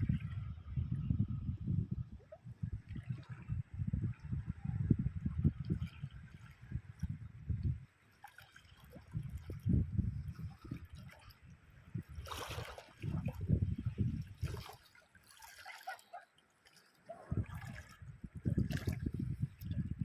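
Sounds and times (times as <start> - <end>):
small waves lapping: 2.1 - 20.0.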